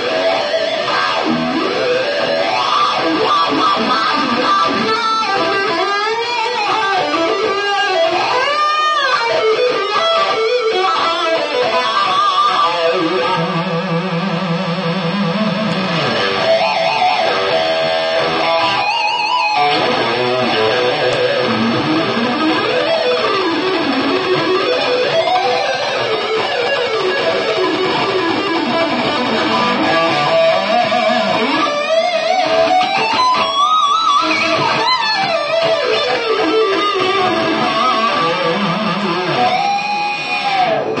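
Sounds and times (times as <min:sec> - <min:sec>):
electric guitar lead: 0:00.0 - 0:41.0.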